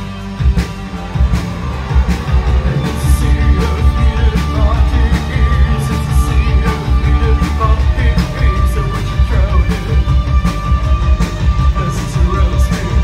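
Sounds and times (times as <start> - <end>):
rock band playing live: 0.0 - 13.0
person singing: 2.0 - 13.0.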